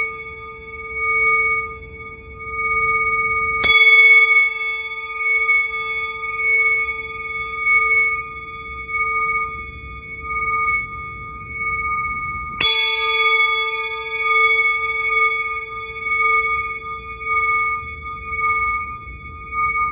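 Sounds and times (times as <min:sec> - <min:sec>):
singing bowl humming: 0:00.0 - 0:19.9
singing bowl struck: 0:00.0 - 0:19.9.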